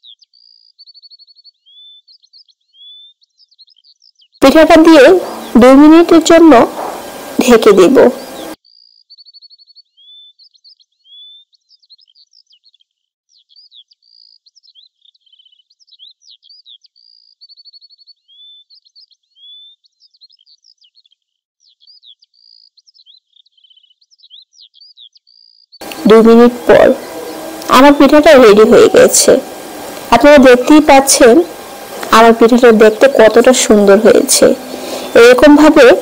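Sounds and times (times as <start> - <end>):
birds chirping and trilling: 0.0 - 36.0.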